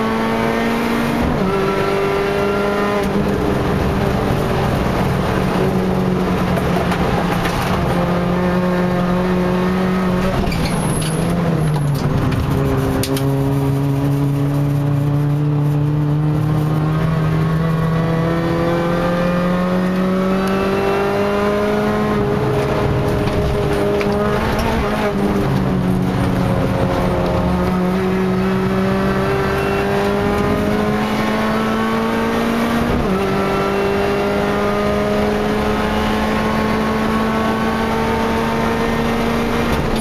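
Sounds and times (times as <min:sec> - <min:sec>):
race car engine accelerating: 0:00.0 - 0:40.0.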